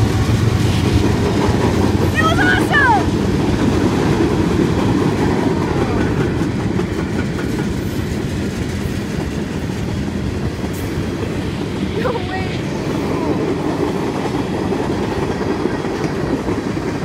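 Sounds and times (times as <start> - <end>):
clacks over rail joints: 0.0 - 17.0
steel wheels rumbling on rails: 0.0 - 17.0.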